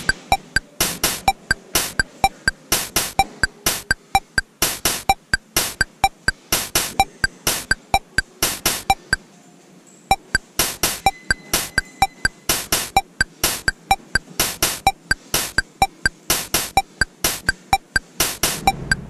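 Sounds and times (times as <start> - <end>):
drum-machine beat: 0.0 - 9.2, 10.1 - 19.0
electronic dance music: 0.0 - 9.2, 10.1 - 19.0.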